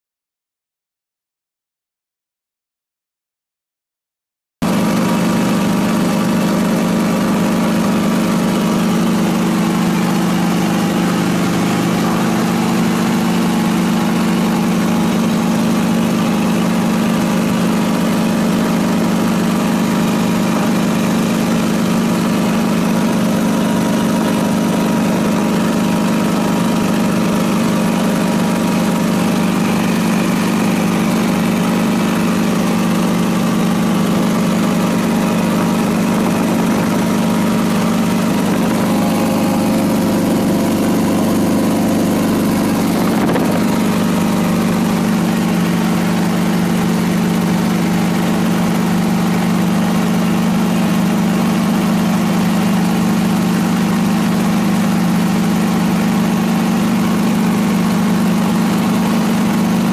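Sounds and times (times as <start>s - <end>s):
small aircraft engine hum: 4.6s - 59.9s.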